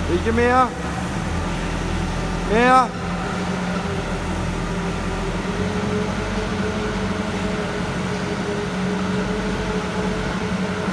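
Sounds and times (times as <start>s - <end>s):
diesel engine droning: 0.0s - 10.9s.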